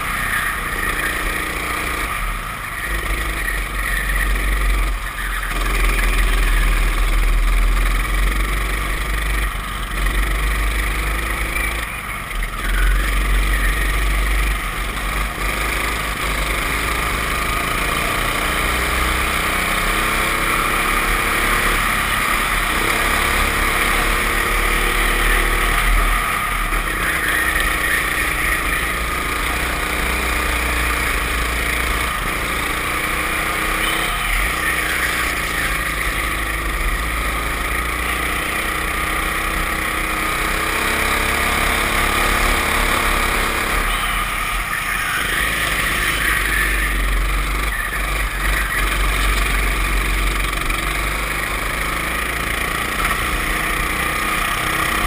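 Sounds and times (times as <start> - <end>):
racing kart engine: 0.0 - 55.0.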